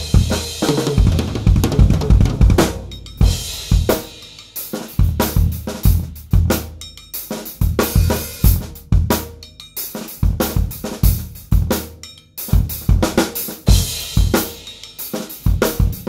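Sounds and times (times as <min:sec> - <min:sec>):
drum kit groove: 0:00.0 - 0:16.0.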